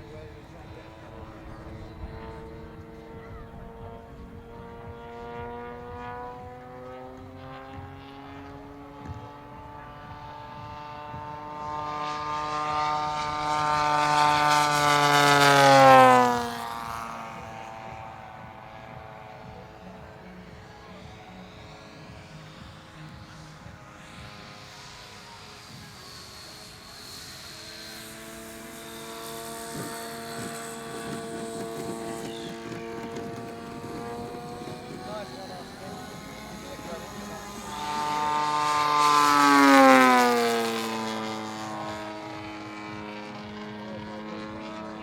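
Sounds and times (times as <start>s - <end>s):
model airplane propeller drone: 0.0s - 45.0s.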